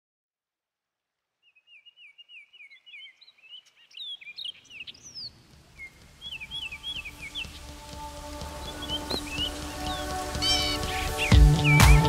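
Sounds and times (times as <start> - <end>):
songbirds singing: 1.4 - 12.0.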